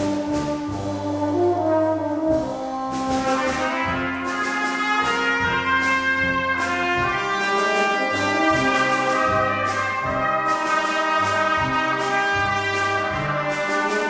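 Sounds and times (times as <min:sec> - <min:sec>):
brass ensemble playing: 0:00.0 - 0:14.0.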